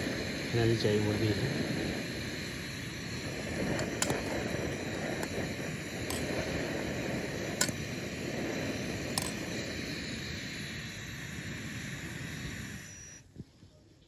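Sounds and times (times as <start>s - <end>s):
gas stove burner hissing: 0.0s - 13.9s.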